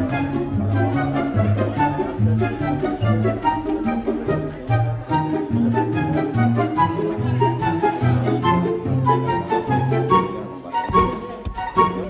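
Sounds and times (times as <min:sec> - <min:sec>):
music with low bass and melody: 0:00.0 - 0:12.0.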